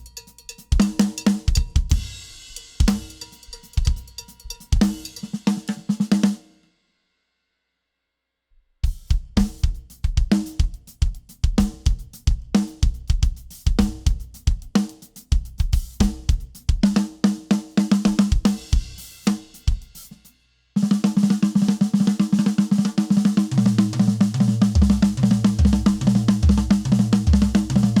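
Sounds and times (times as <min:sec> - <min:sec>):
drum kit playing: 0:00.0 - 0:06.3, 0:08.9 - 0:28.0
fast drum roll: 0:00.7 - 0:06.4, 0:08.9 - 0:28.0.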